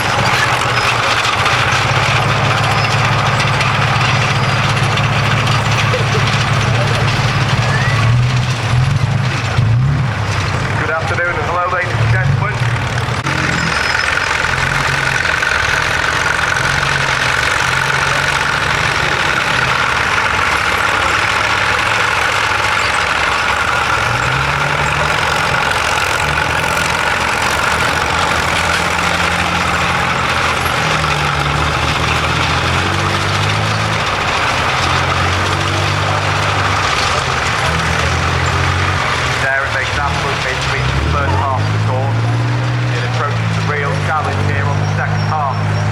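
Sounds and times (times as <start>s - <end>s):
heavy engine humming: 0.0s - 45.9s.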